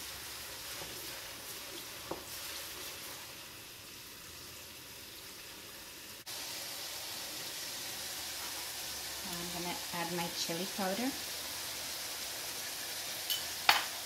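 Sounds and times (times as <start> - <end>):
onion and garlic sizzling in oil: 0.0 - 14.0.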